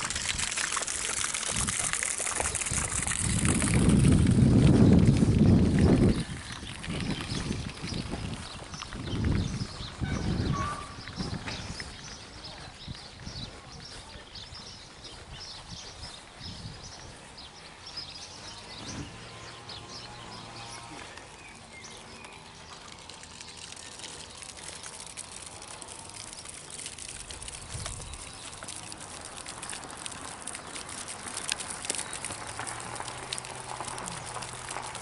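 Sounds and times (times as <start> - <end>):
birds chirping: 0.2 - 34.8.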